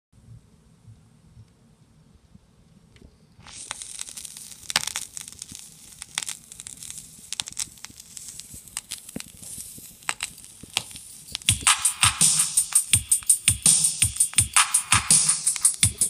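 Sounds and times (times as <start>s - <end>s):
vinyl surface hiss: 0.3s - 16.0s
vinyl crackles and pops: 2.3s - 16.0s.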